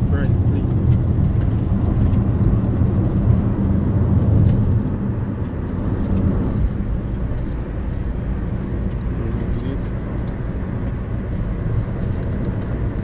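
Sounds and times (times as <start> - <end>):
car driving road and engine noise: 0.0 - 13.0.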